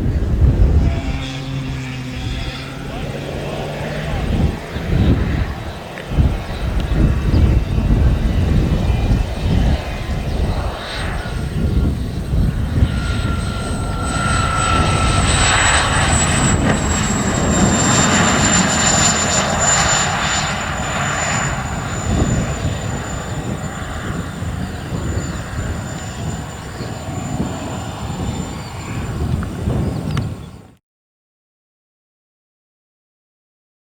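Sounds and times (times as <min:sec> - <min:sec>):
jet turbine whine: 0:00.0 - 0:30.8.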